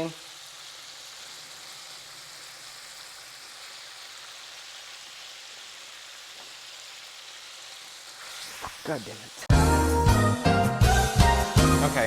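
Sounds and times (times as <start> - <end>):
chicken sizzling in hot oil: 0.0 - 10.2, 10.8 - 12.0.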